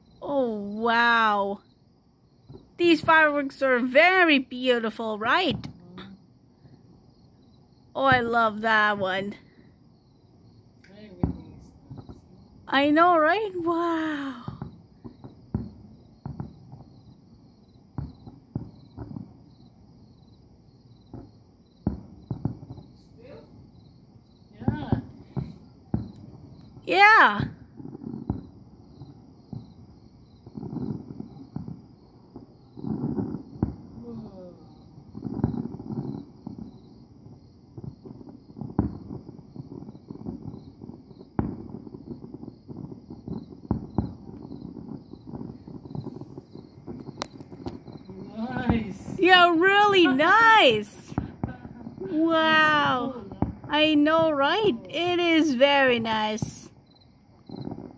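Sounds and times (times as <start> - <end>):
crickets chirping: 0.0 - 57.9
low crackle: 0.0 - 57.9
distant firework bursts: 1.4 - 57.9.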